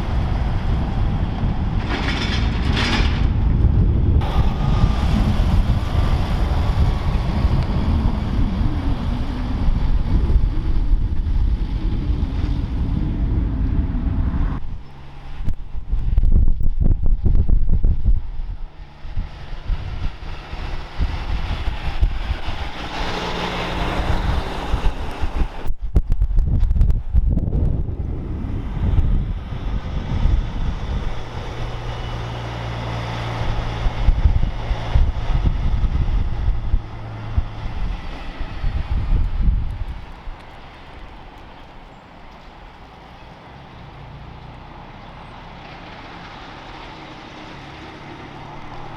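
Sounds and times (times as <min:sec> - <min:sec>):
heavy truck driving past: 0:00.0 - 0:16.4, 0:17.2 - 0:25.7, 0:27.2 - 0:48.9
engine and road hum: 0:00.0 - 0:48.9
wind buffeting microphone: 0:00.0 - 0:48.9.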